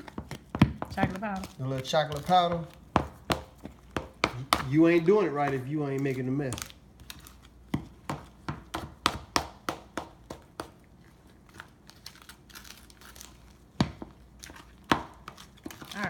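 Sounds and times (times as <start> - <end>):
crinkling and crunching handling: 0.0 - 8.5, 10.7 - 16.0.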